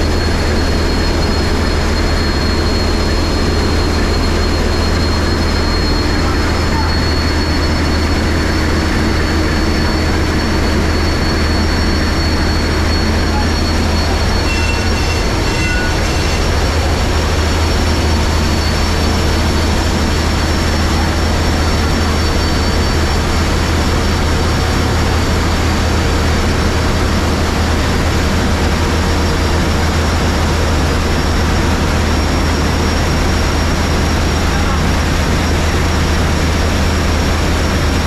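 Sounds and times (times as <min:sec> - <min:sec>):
diesel engine droning: 0:00.0 - 0:38.0
thin high whine: 0:00.0 - 0:38.0.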